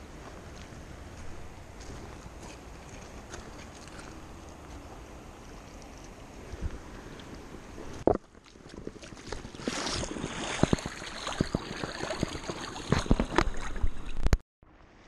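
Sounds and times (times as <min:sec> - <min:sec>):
water splashing: 0:00.0 - 0:14.4
wind on microphone: 0:00.0 - 0:14.4
river water flowing: 0:00.0 - 0:15.0.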